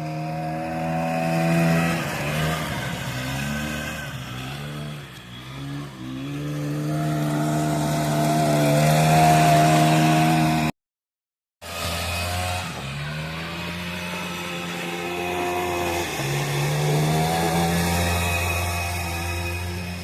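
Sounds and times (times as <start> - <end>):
car engine revving: 0.0 - 10.7, 11.6 - 20.0.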